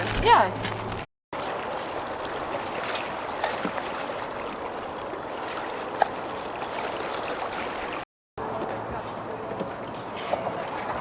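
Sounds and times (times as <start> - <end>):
flowing water: 1.3 - 11.0.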